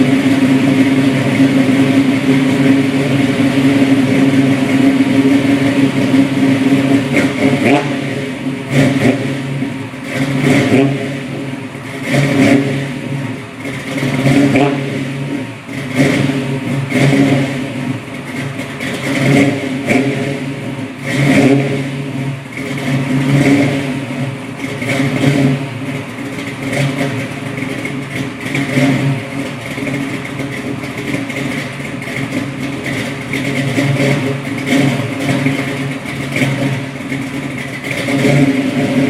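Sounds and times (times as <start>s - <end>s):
car engine exhaust rumbling: 0.0s - 39.0s.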